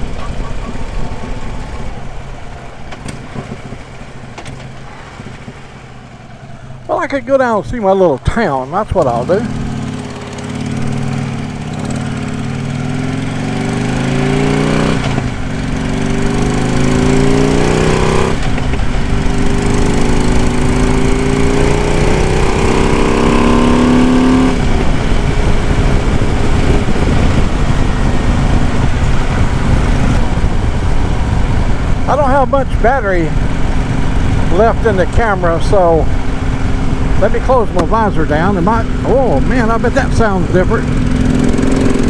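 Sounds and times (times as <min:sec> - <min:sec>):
motorcycle engine accelerating: 0:00.0 - 0:42.0
road and wind noise: 0:00.0 - 0:42.0.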